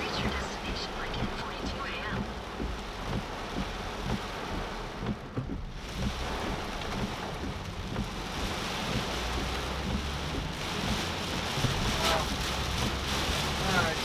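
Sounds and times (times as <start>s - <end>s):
car engine and tyres rumble: 0.0s - 14.0s
heavy rain on a car: 0.0s - 14.0s.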